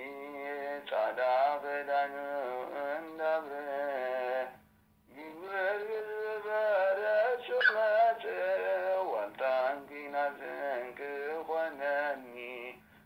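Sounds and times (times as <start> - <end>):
man singing a hymn: 0.0 - 12.9
faint steady hum: 0.0 - 13.0.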